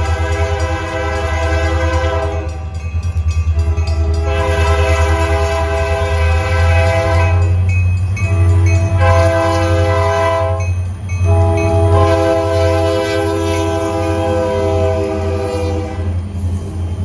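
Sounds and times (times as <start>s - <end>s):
locomotive air horn blasts: 0.0s - 2.6s, 3.6s - 16.2s.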